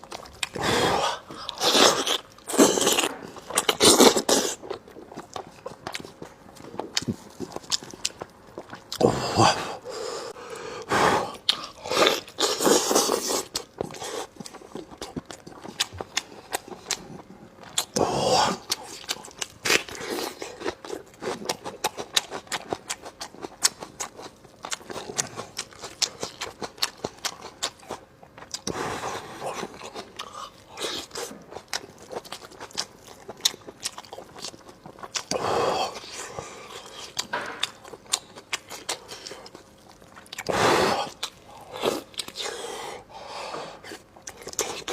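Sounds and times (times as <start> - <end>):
chewing and biting: 0.0 - 9.2, 11.3 - 42.8, 43.8 - 44.9.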